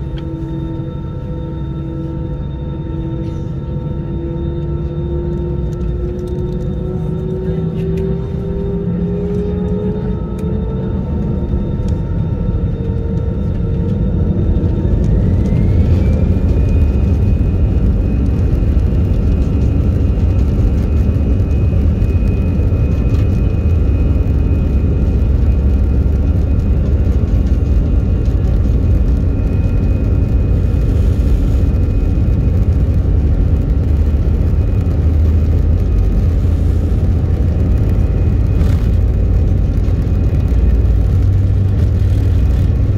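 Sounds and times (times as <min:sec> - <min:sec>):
jet engines spooling up: 0:00.0 - 0:42.9
rising engine whine: 0:00.0 - 0:42.9.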